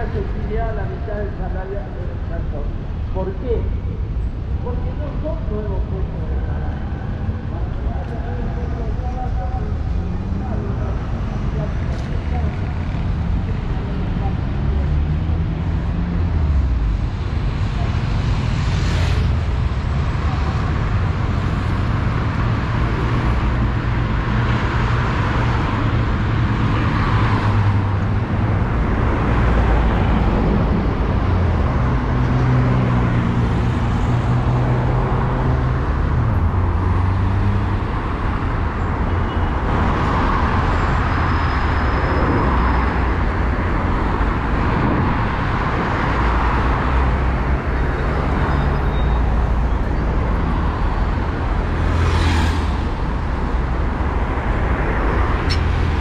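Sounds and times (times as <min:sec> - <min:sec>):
cars passing close by: 0:06.2 - 0:56.0.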